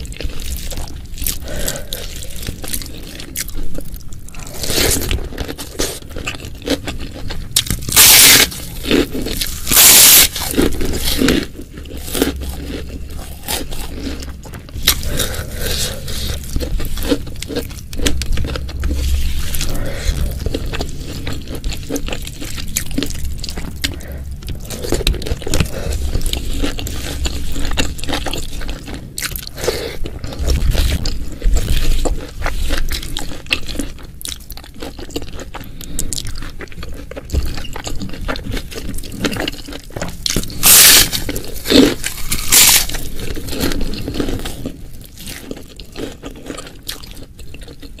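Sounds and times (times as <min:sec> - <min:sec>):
chewing and crunching: 0:00.0 - 0:48.0.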